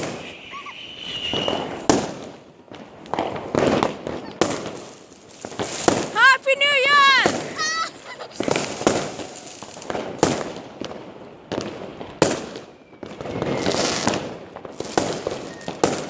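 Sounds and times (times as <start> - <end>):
fireworks bangs: 0.0 - 16.0
fireworks hissing crackling: 0.0 - 16.0.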